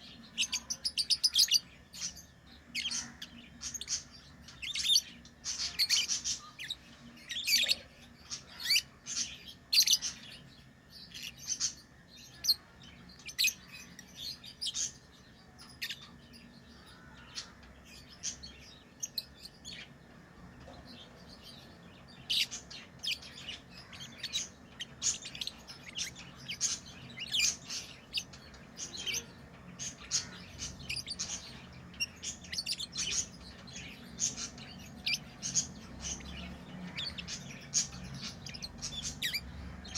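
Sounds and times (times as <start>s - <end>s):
faint steady low hum: 0.0s - 39.9s
lovebirds chirping: 0.0s - 39.9s.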